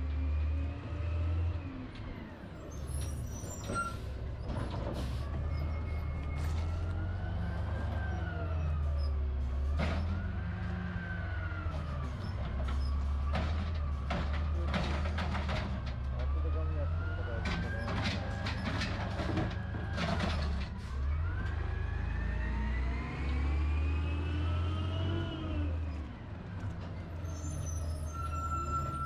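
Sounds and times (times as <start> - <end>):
road vehicle rumble: 0.0 - 29.0.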